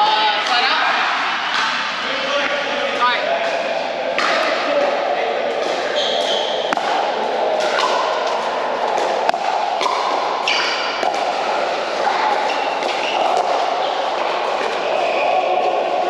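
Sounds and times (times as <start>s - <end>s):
din of echoing hall: 0.0s - 16.0s.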